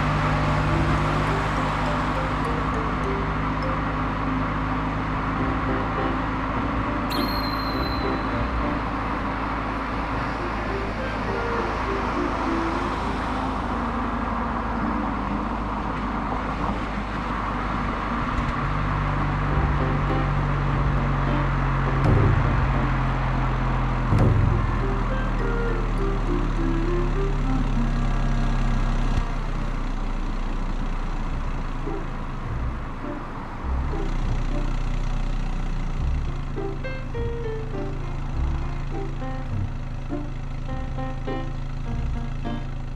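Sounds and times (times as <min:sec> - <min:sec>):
car engine hum: 0:00.0 - 0:42.9
road noise: 0:00.0 - 0:42.9.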